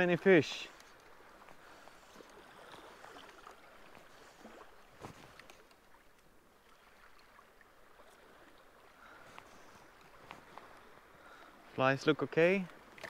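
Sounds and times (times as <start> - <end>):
sea water lapping: 0.0 - 13.0.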